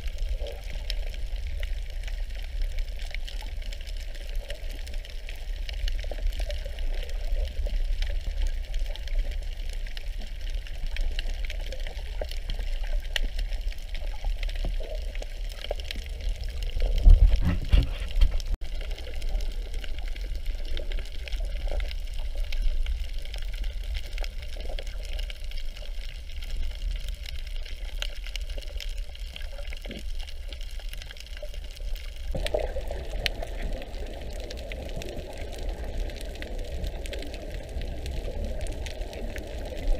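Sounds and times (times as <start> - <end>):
muffled underwater water rumble: 0.0 - 39.9.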